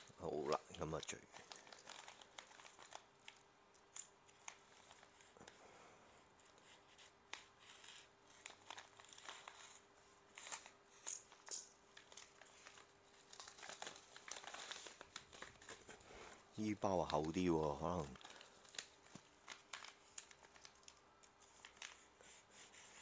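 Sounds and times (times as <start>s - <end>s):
plastic mailer crinkling: 0.0s - 5.6s, 6.4s - 23.0s.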